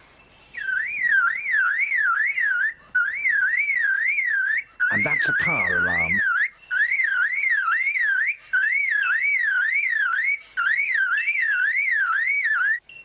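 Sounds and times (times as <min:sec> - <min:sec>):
bird mimicking car alarm: 0:00.6 - 0:13.0.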